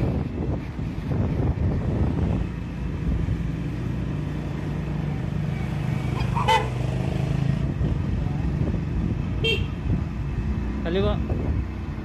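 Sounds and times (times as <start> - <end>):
road and wind rumble: 0.0 - 12.0.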